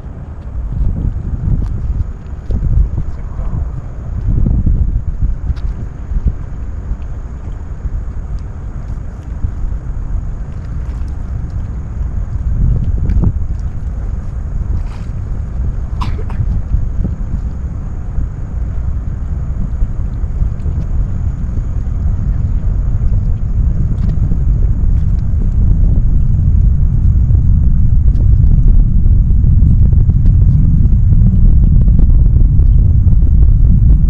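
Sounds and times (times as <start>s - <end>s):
distant rocket engine rumble: 0.0s - 34.0s.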